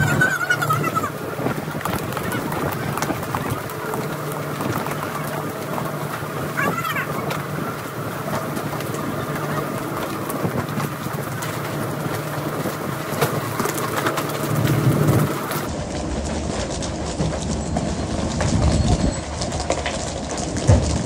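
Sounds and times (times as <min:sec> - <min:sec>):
boat engine running: 0:00.0 - 0:21.0
fish flapping on deck: 0:00.0 - 0:21.0.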